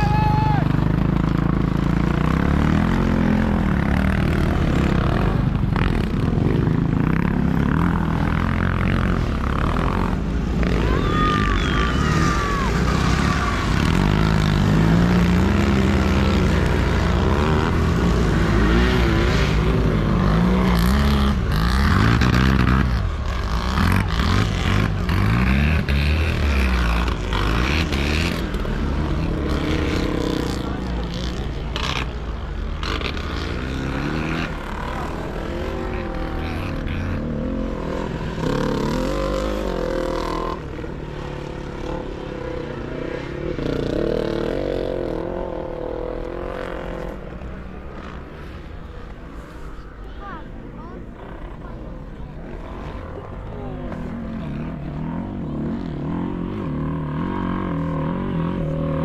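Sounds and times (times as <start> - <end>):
motorcycles racing: 0.0 - 59.0.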